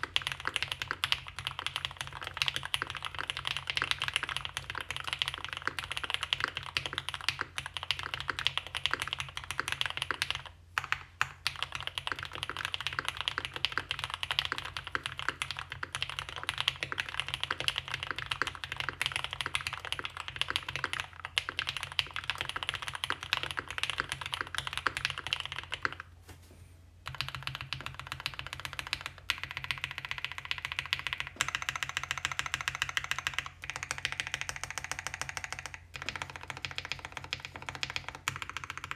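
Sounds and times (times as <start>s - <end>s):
fast typing on mechanical keyboard: 0.0s - 26.1s, 27.1s - 38.9s.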